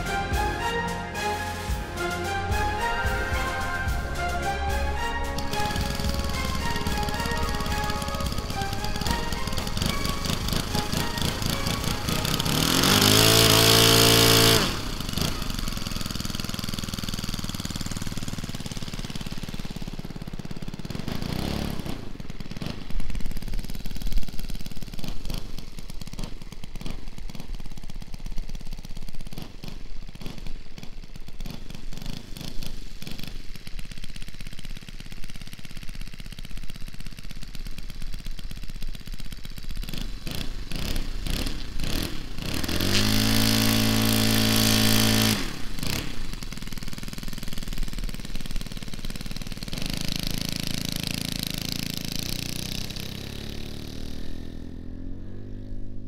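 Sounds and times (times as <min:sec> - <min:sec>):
model plane engine idling: 0:05.4 - 0:54.9.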